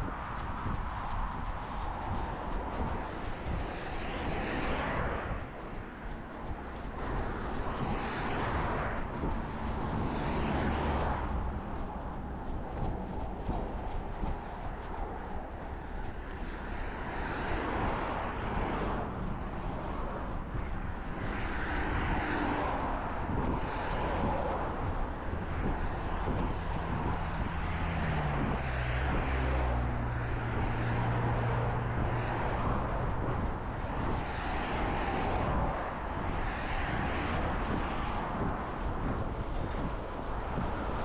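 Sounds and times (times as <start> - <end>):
engine hum passing: 0.0 - 41.0
running footfalls and rustle: 0.0 - 41.0.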